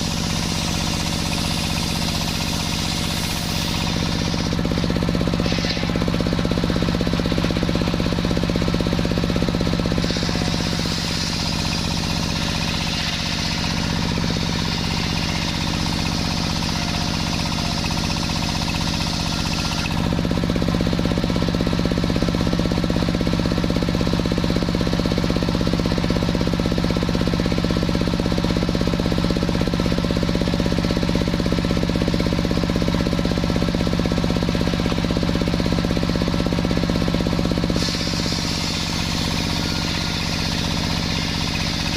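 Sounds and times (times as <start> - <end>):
sawmill engine drone: 0.0 - 41.9.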